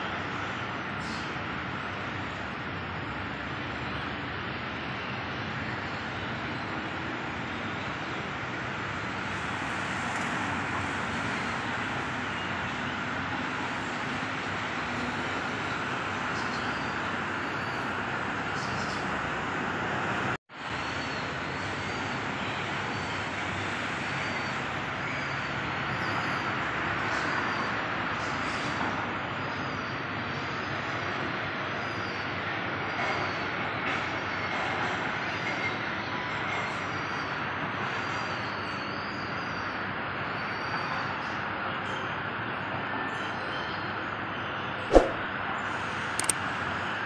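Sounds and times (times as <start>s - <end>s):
monorail train running: 0.0s - 47.0s
rushing traffic noise: 0.0s - 47.0s.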